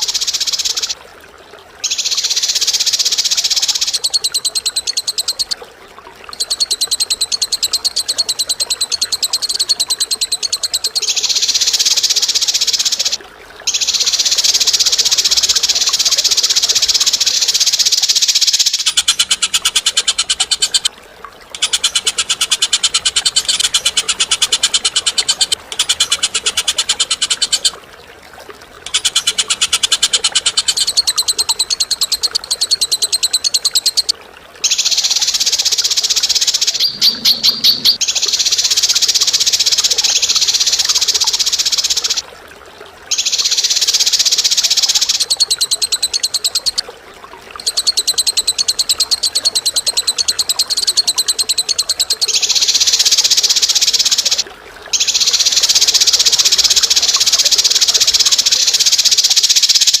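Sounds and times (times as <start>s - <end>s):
bird chattering trill: 0.0s - 1.0s, 1.9s - 5.6s, 6.3s - 20.9s, 21.6s - 27.8s, 28.8s - 34.1s, 34.7s - 42.2s, 47.6s - 54.4s, 55.0s - 60.0s.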